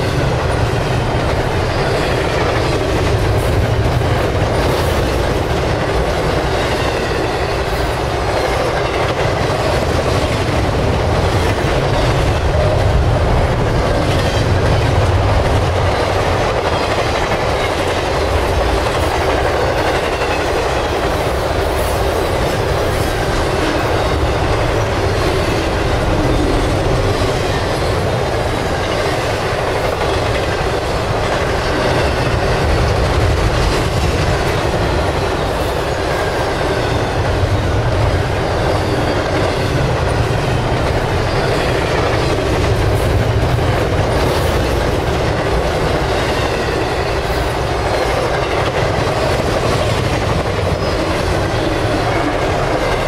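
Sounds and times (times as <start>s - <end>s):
freight train rumble: 0.0s - 53.0s.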